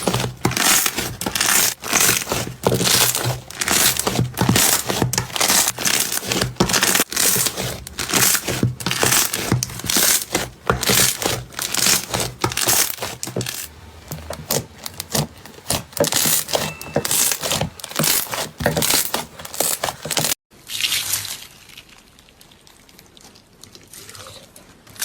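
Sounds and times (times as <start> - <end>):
rapid crinkling and crunching: 0.0 - 20.4.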